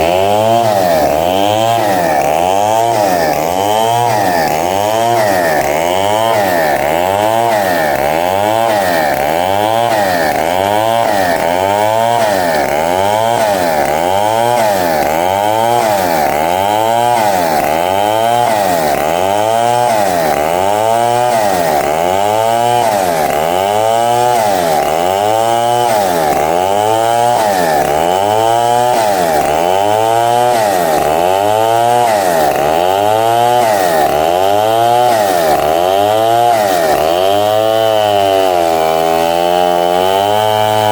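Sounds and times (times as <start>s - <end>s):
power saw cutting wood: 0.0s - 40.9s.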